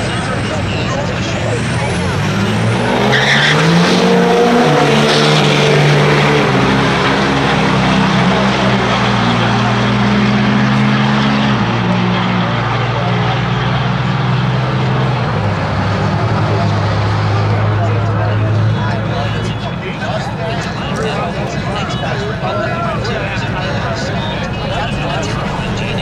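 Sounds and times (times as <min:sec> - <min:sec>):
truck engines racing: 0:00.0 - 0:26.0.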